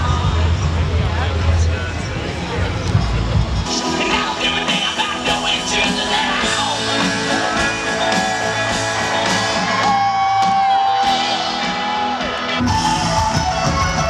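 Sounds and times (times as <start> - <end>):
live rock music with guitar: 2.7 - 14.0.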